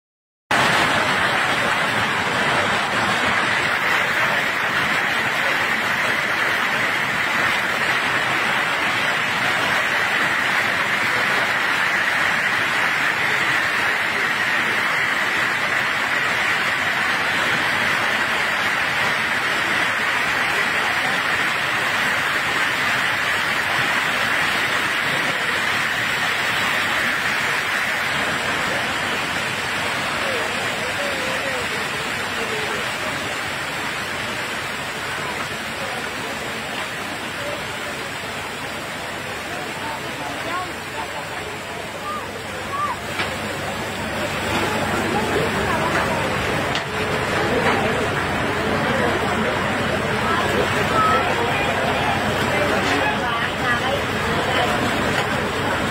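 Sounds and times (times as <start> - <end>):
heavy rain falling: 0.5 - 55.9.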